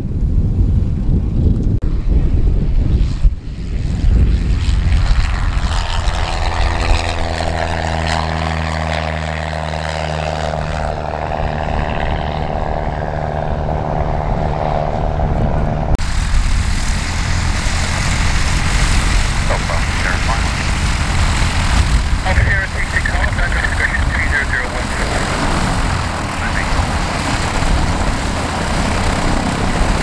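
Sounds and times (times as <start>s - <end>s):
light aircraft engine: 0.0s - 30.0s.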